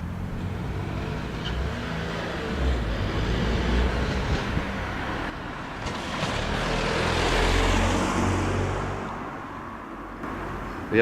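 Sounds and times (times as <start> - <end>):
car passing by: 0.4 - 11.0.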